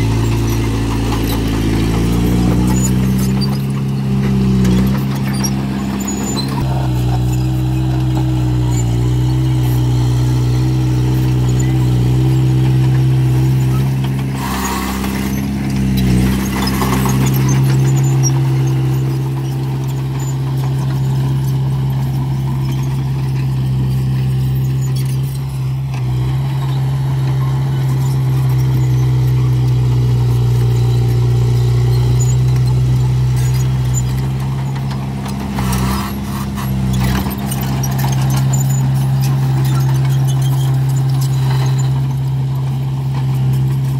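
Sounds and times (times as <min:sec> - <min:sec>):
bulldozer diesel engine: 0:00.0 - 0:43.9.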